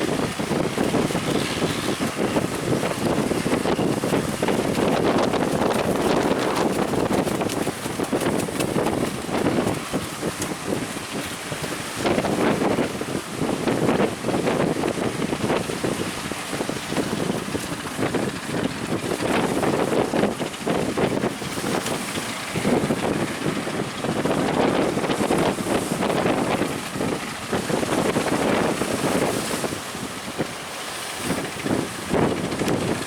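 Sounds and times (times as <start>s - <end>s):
strong wind buffeting microphone: 0.0s - 33.0s.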